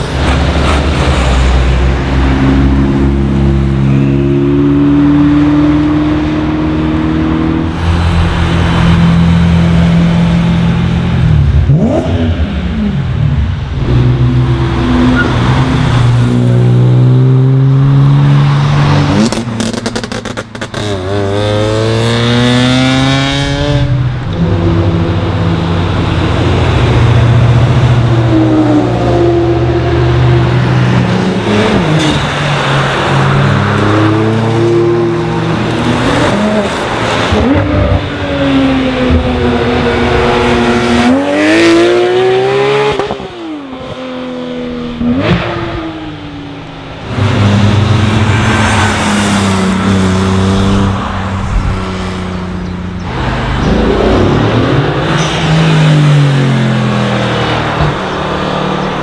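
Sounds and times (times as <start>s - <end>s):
cars revving and accelerating: 0.0s - 59.0s.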